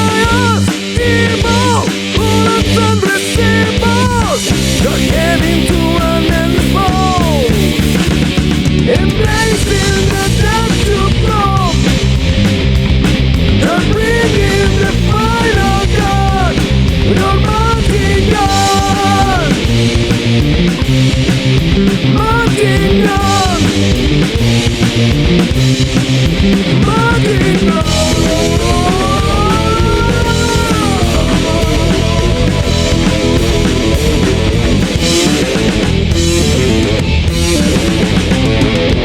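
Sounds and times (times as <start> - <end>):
hard rock band playing: 0.0 - 39.0
lead electric guitar bending notes: 0.0 - 39.0.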